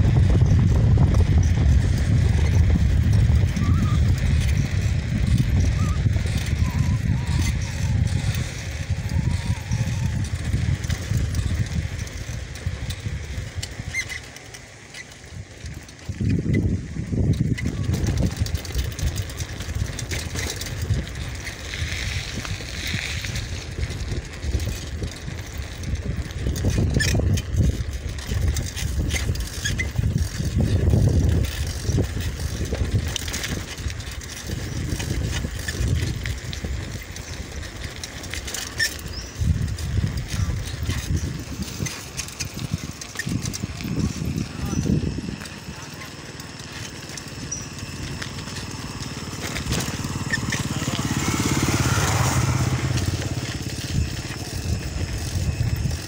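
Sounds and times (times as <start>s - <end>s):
wind buffeting microphone: 0.0s - 14.4s, 15.2s - 56.0s.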